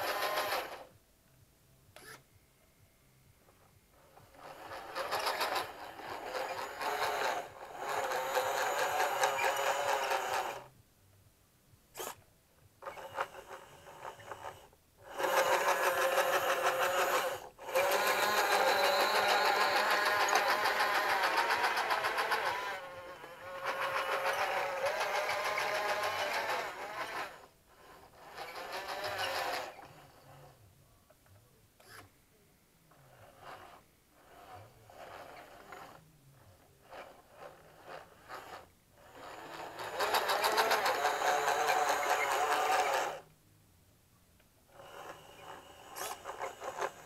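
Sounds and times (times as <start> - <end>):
toy electric motors whining: 0.0 - 0.9, 2.0 - 2.3, 3.6 - 10.7, 11.9 - 12.2, 12.8 - 30.6, 31.8 - 32.1, 32.9 - 43.3, 44.7 - 47.0.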